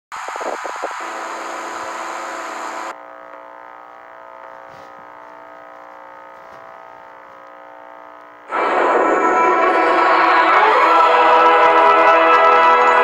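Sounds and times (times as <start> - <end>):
steady electrical buzz: 0.1 - 13.0.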